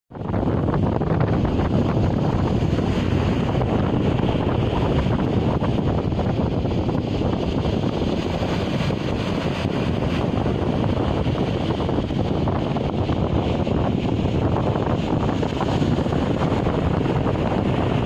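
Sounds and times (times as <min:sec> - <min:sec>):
wind buffeting microphone: 0:00.1 - 0:18.0
surf breaking on shore: 0:00.2 - 0:18.0.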